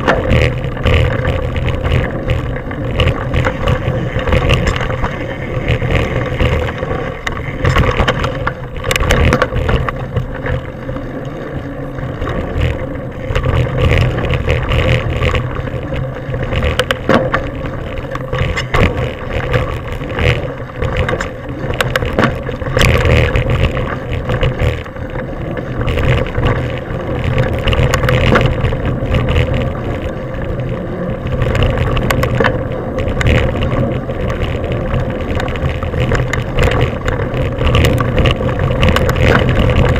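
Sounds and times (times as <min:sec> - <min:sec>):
bike knocks and rattles: 0:00.0 - 0:39.9
bike tyres rolling over dirt: 0:00.0 - 0:39.9
steady hum: 0:00.0 - 0:39.9
wind buffeting microphone: 0:00.0 - 0:39.9.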